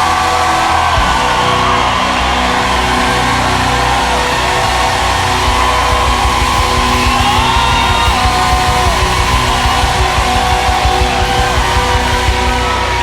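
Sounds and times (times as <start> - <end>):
bass and drums: 0.0 - 13.0
sliding electric guitar: 0.0 - 13.0.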